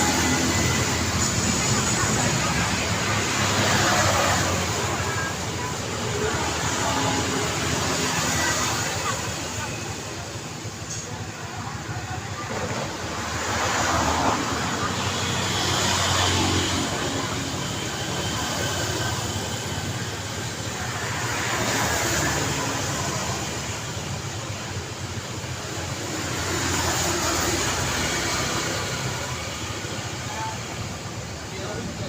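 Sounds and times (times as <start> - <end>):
road traffic: 0.0 - 32.0.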